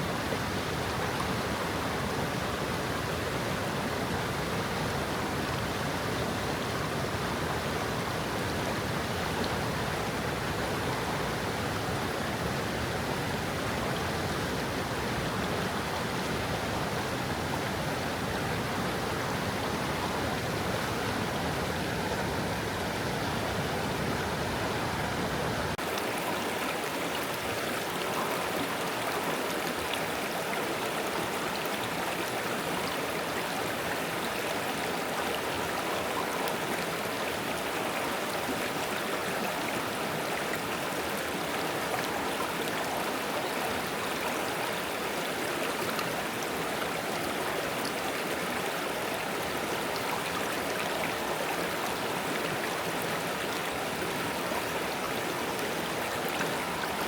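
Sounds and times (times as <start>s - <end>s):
stream running over stones: 0.0s - 57.0s.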